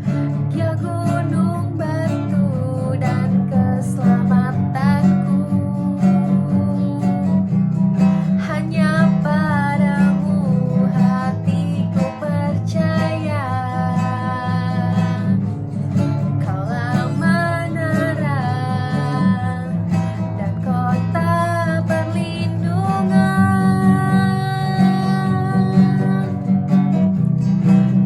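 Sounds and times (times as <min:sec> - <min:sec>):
acoustic guitar strumming: 0:00.0 - 0:28.0
person singing: 0:00.4 - 0:07.4, 0:08.3 - 0:15.5, 0:16.4 - 0:26.6.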